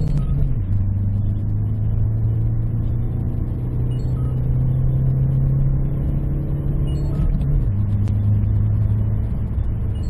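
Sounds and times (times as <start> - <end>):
diesel engine accelerating: 0.0 - 10.0.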